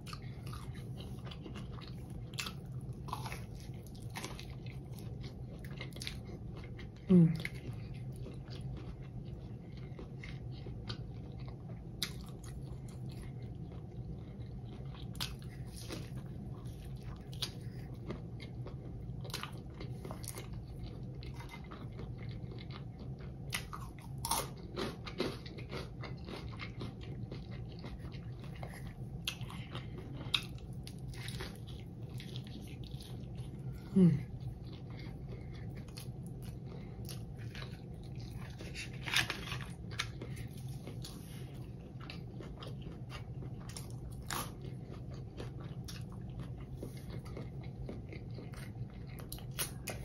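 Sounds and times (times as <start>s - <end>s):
person chewing and crunching: 0.0s - 50.0s.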